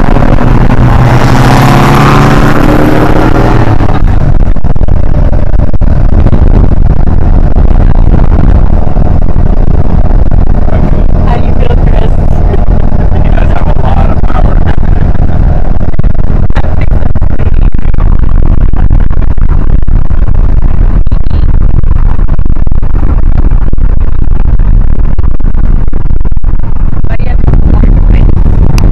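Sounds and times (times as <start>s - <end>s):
car engine: 0.0s - 28.9s
road noise: 0.0s - 28.9s
wind rushing over microphone: 0.0s - 28.9s.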